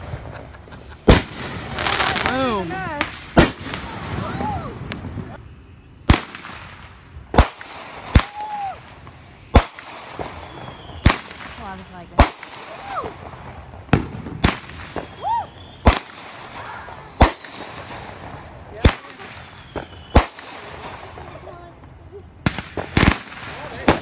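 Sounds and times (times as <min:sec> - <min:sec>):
fireworks bangs: 0:00.0 - 0:24.0
fireworks whistling: 0:00.0 - 0:24.0.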